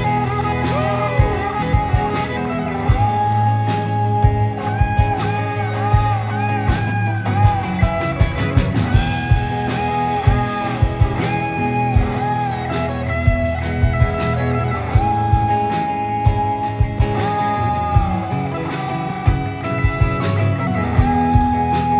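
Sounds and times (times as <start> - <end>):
electric guitar solo with bent notes: 0.0 - 21.9
steady bass line: 0.0 - 21.9.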